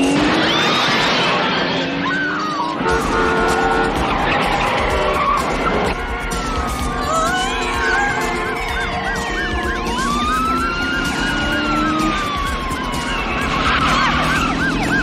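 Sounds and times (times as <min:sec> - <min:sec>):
police siren wailing: 0:00.0 - 0:15.0
police siren yelping: 0:00.0 - 0:15.0
vehicle engines running: 0:00.0 - 0:15.0.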